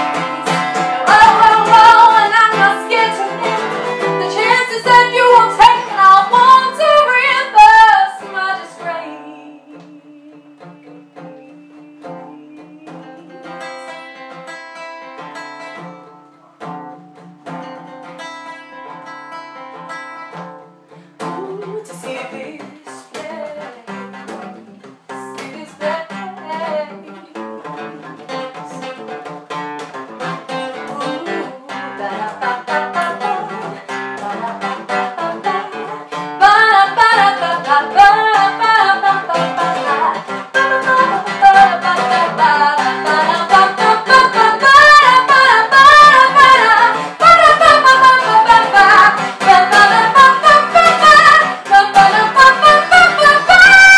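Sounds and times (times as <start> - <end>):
woman singing: 0.0 - 14.2, 21.2 - 29.0, 30.5 - 53.9
acoustic guitar strumming: 0.0 - 53.9.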